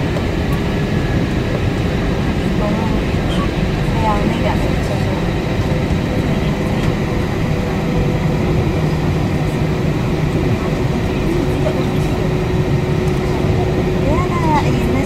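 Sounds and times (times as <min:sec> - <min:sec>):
airliner cabin rumble: 0:00.0 - 0:15.0
steady hums: 0:00.0 - 0:15.0.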